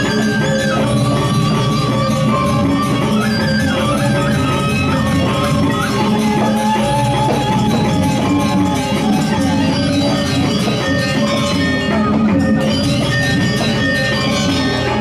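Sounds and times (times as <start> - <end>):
bronze metallophones ringing: 0.0 - 15.0
drums: 0.0 - 15.0.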